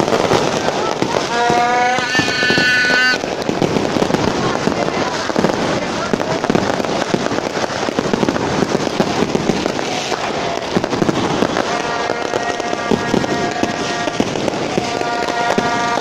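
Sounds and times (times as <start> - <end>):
firecrackers bangs and crackling: 0.0 - 16.0.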